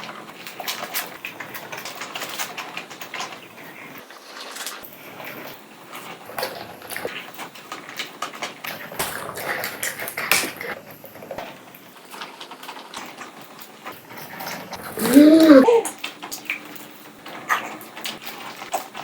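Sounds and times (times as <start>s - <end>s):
people chewing pizza: 0.0s - 19.0s.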